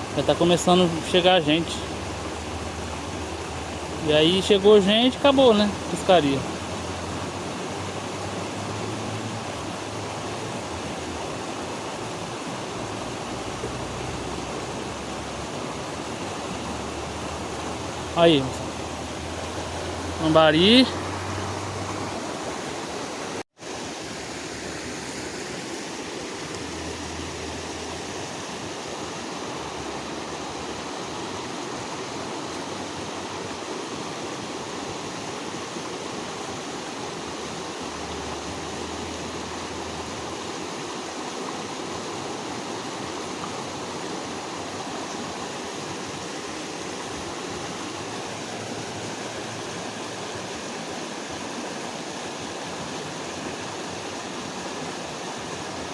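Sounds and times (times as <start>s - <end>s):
creek water running: 0.0s - 55.9s.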